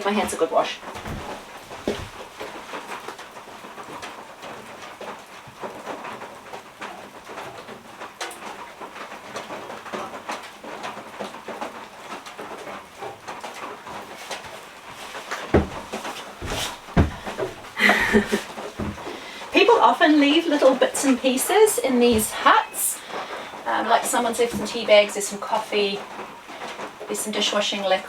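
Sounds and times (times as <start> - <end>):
rain pattering: 0.0 - 16.6, 17.3 - 28.0.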